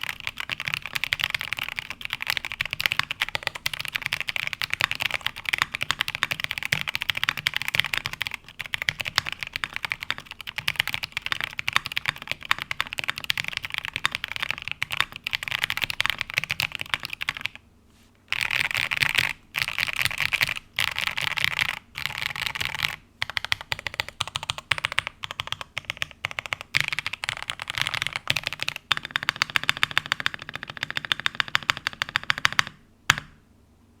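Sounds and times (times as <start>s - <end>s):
mechanical keyboard typing: 0.0s - 17.6s, 18.3s - 33.3s.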